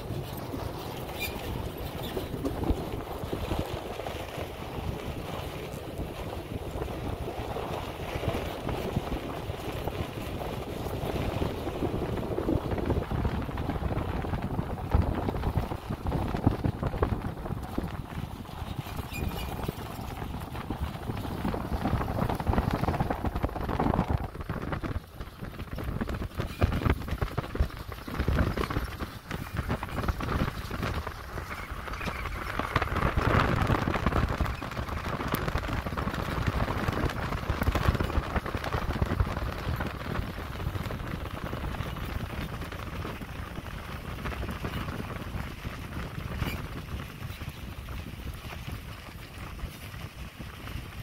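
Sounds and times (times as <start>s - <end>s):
pickup truck driving on dirt: 0.0s - 51.0s
wind buffeting microphone: 0.0s - 51.0s.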